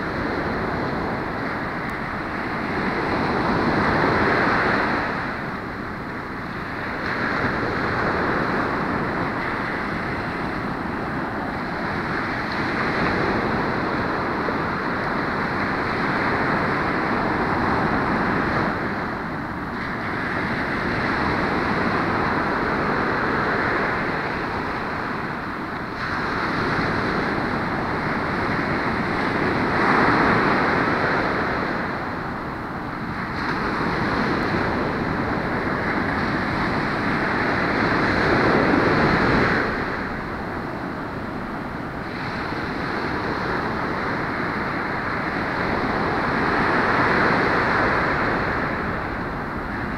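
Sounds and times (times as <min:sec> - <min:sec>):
ocean waves breaking on beach: 0:00.0 - 0:49.9.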